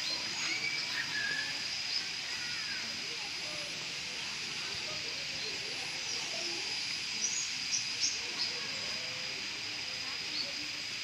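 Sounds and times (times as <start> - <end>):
constant thin high tone: 0.0 - 11.0
steady high hiss: 0.0 - 11.0.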